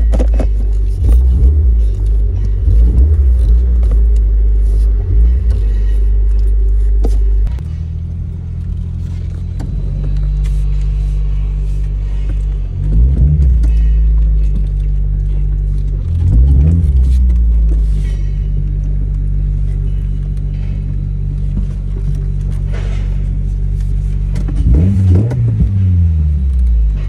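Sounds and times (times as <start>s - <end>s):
car engine droning: 0.0s - 27.0s.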